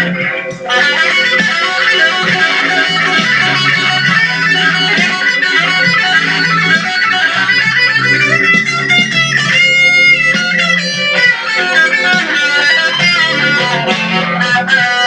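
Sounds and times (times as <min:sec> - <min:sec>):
plucked electric guitar: 0:00.0 - 0:15.0
steady bass line: 0:00.0 - 0:15.0.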